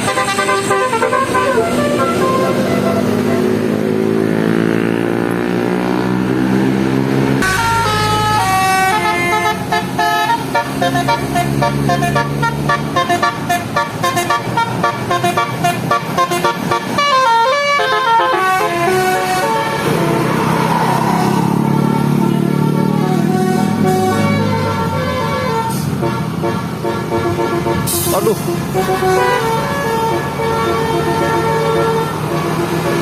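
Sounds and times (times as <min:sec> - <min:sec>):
multi-tone bus horn tune: 0:00.0 - 0:05.0, 0:07.4 - 0:33.0.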